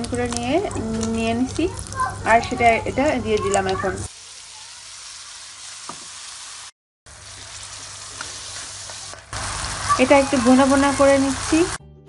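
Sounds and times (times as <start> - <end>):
hot oil sizzling in frying pan: 0.0 - 11.8.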